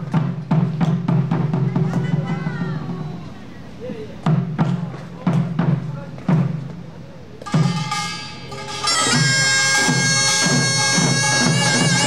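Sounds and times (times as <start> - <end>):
drum strokes: 0.0 - 3.5, 4.2 - 12.0
reedy shawm playing: 0.0 - 12.0.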